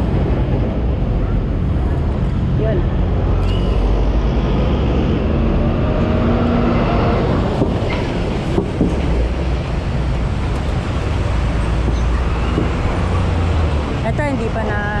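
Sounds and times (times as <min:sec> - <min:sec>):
low traffic rumble: 0:00.0 - 0:15.0
vehicles driving past: 0:00.0 - 0:15.0.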